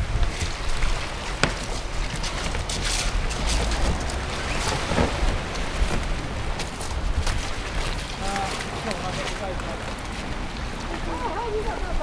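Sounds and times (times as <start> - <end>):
waves washing onto shingle: 0.0 - 12.0
wind buffeting microphone: 0.0 - 12.0.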